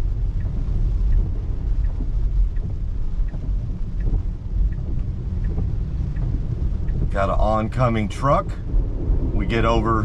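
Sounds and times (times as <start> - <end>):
turn signal ticking: 0.0 - 10.0
tyre and road rumble: 0.0 - 10.0.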